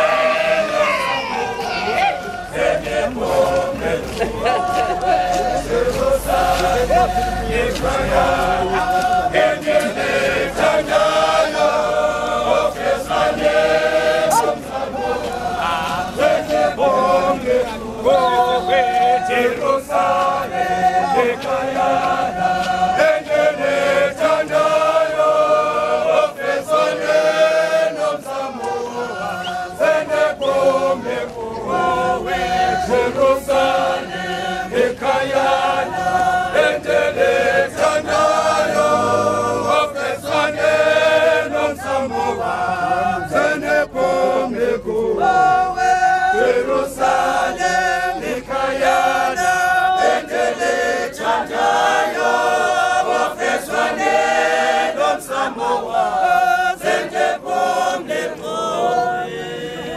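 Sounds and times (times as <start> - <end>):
group singing a hymn in unison: 0.0 - 59.9.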